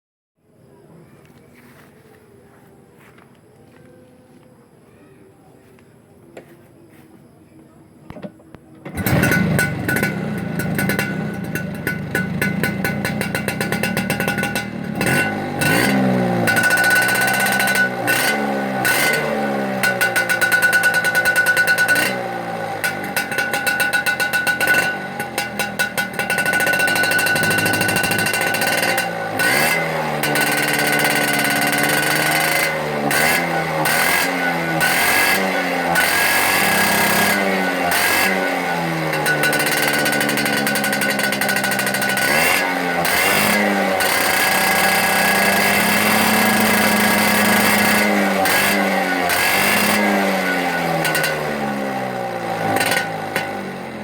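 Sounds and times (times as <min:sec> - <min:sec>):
scooter engine revving: 0:08.8 - 0:54.0.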